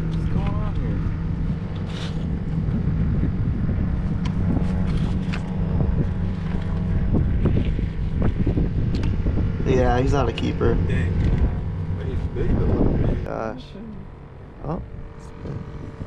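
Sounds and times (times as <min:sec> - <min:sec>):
boat motor droning: 0:00.0 - 0:16.0
wind buffeting microphone: 0:00.0 - 0:16.0.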